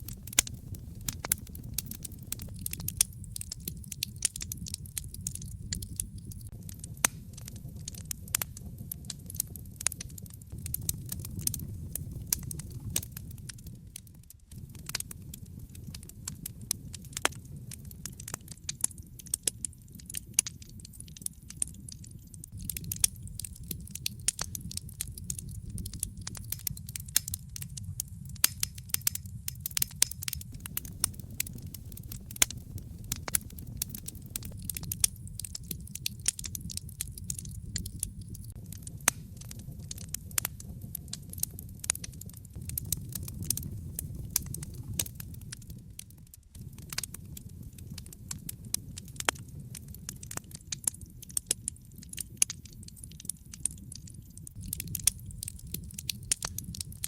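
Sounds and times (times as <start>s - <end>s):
fire pops and snaps: 0.0s - 57.0s
low rumble of flames: 0.0s - 57.0s.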